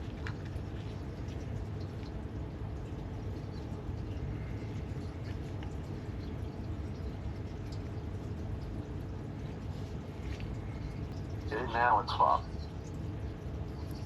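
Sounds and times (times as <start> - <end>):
water rushing through pipes: 0.0 - 14.0.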